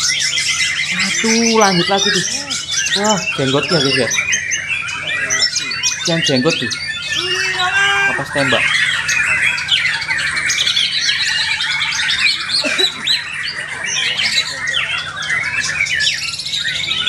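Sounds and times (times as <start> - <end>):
songbird singing trills: 0.0 - 17.0.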